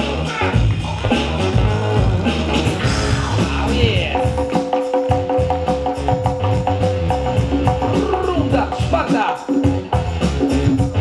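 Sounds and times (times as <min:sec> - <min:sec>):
dj music with heavy bass: 0:00.0 - 0:11.0.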